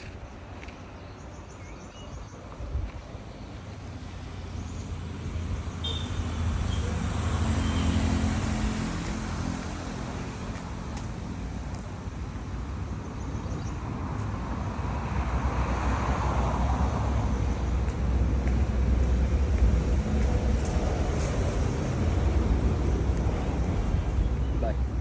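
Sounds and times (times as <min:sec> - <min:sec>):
vehicle passing on road: 0:02.5 - 0:25.0.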